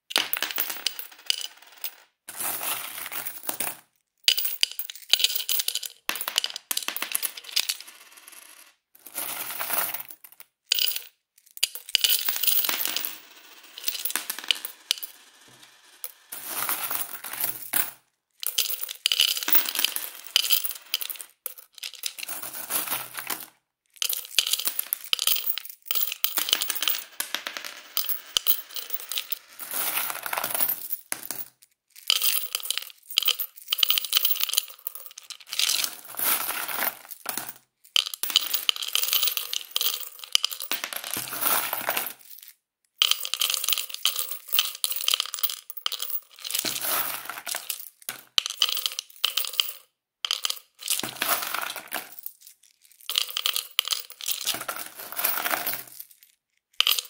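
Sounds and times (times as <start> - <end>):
coins clinking into piggy bank: 0.1 - 57.0.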